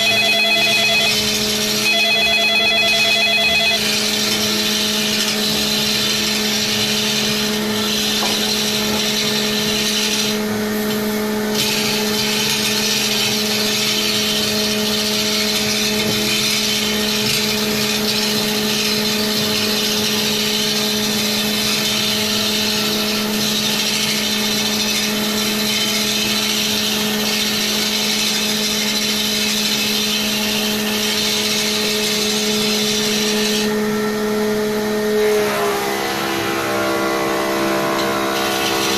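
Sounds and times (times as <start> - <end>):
lathe motor hum: 0.0 - 38.9
turning tool scraping wood: 3.8 - 33.8, 36.5 - 38.9.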